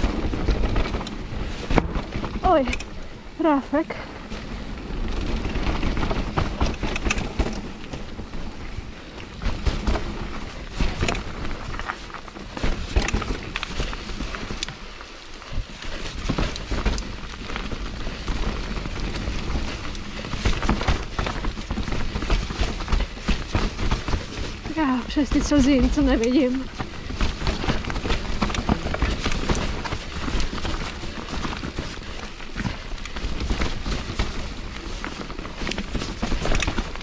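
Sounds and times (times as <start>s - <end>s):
bike knocking and rattling: 0.0s - 37.0s
bike tyres on wet dirt: 0.0s - 37.0s
constant low rumble: 0.0s - 37.0s.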